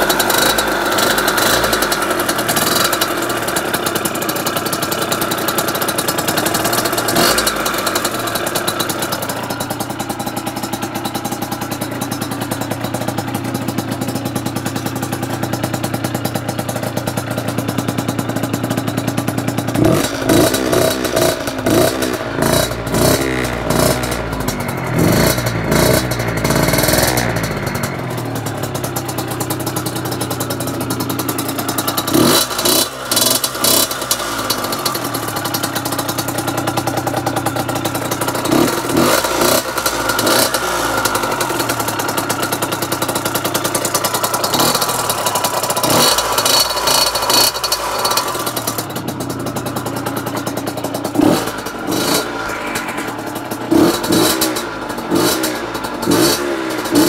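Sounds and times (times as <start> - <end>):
moped engine idling and revving: 0.0 - 57.0.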